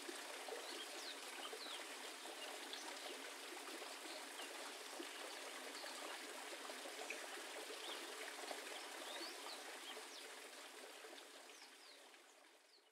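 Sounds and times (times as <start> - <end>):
water trickling and splashing: 0.0 - 12.8.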